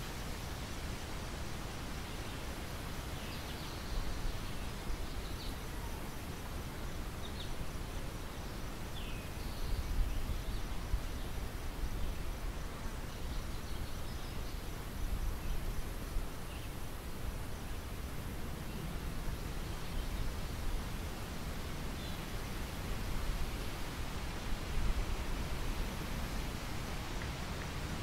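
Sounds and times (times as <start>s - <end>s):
wind hiss: 0.0s - 28.0s.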